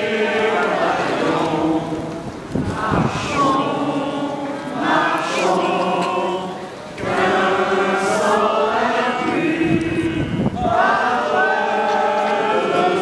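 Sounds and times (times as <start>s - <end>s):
large crowd singing: 0.0s - 13.0s.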